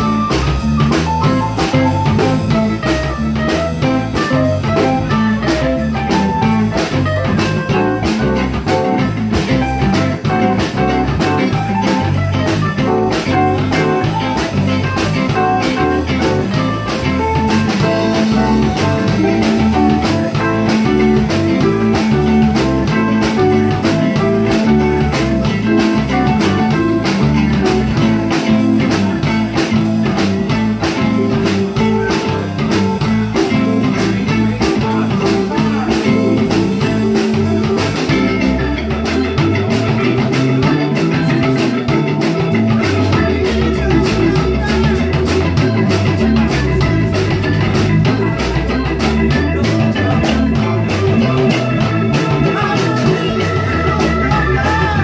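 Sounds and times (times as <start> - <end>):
bass guitar: 0.0 - 55.0
blues harmonica: 0.0 - 55.0
drum kit steady beat: 0.0 - 55.0
electric guitar: 0.0 - 55.0
keyboard: 0.0 - 55.0.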